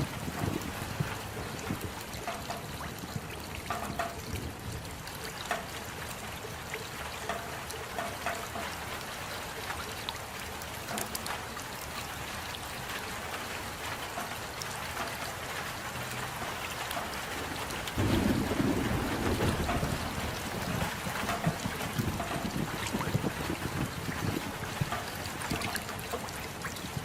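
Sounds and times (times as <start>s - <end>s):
raindrops ticking: 0.0s - 27.0s
steady rain hiss: 0.0s - 27.0s.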